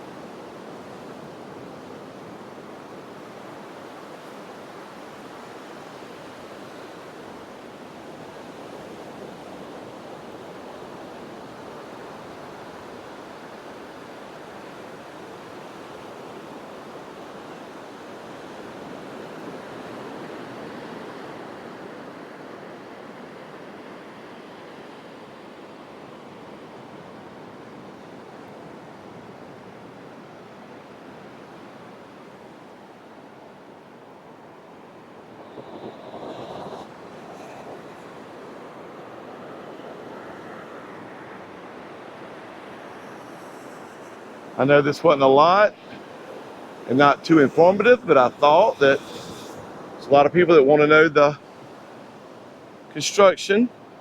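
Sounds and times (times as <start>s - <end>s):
ocean surf washing onto beach: 0.0s - 54.0s.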